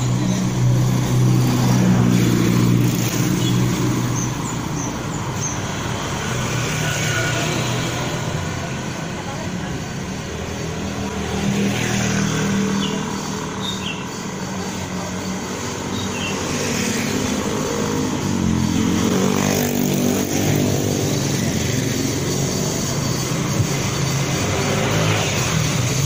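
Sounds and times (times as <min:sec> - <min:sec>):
motorbikes passing by: 0:00.0 - 0:26.0
traffic hum: 0:00.0 - 0:26.0.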